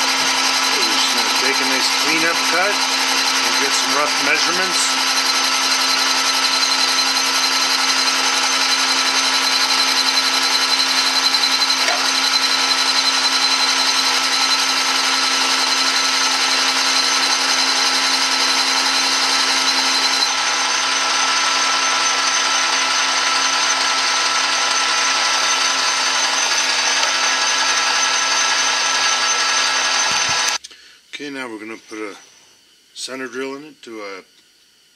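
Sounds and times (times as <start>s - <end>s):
metal lathe motor and gear whine: 0.0s - 30.6s.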